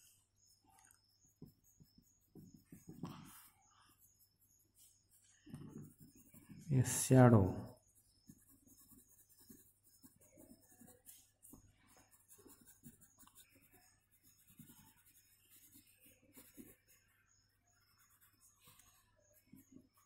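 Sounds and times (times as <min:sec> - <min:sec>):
pencil scratching on paper: 0:00.0 - 0:20.0.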